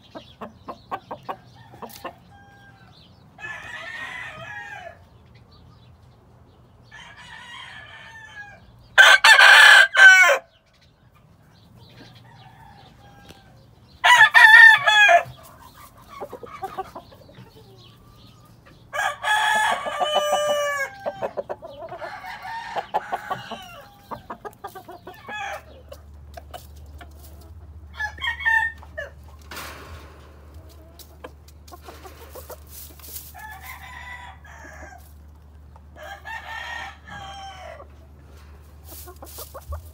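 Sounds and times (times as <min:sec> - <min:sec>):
roosters crowing: 0:01.3 - 0:05.2, 0:06.8 - 0:10.6, 0:12.0 - 0:17.0, 0:18.0 - 0:26.2, 0:27.2 - 0:30.8, 0:31.8 - 0:39.9.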